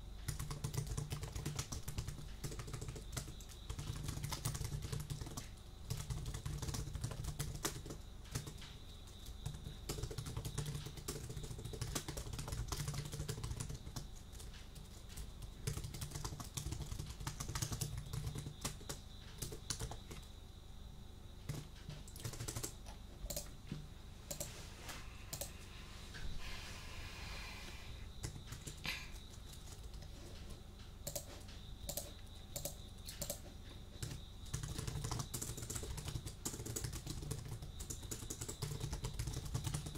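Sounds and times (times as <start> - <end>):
computer keyboard typing: 0.2 - 20.3, 21.4 - 23.6, 24.3 - 24.5, 25.3 - 25.6, 28.2 - 39.9.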